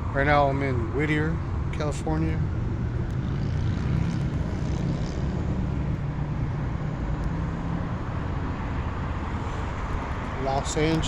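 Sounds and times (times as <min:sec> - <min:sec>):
car engine: 0:00.0 - 0:11.0
road noise: 0:00.0 - 0:11.0.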